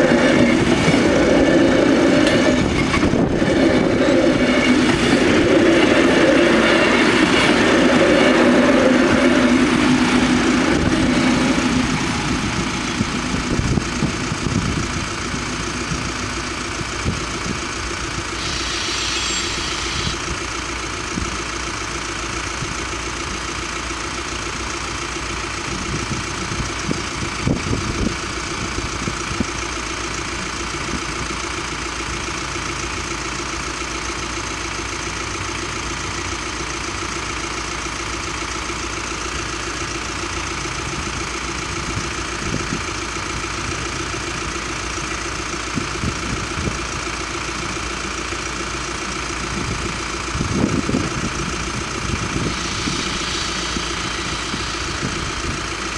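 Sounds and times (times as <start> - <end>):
crossing warning bells ringing: 0.0 - 26.8, 31.8 - 55.9
car engine idling: 0.0 - 55.9.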